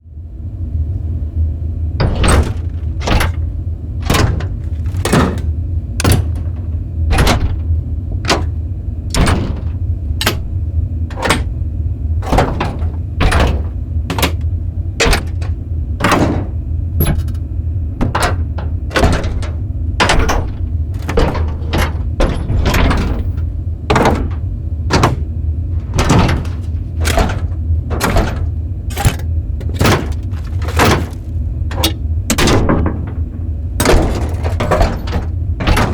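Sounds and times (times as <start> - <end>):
low industrial hum: 0.0 - 35.9
metal levers clacking: 2.0 - 11.6, 12.2 - 35.9.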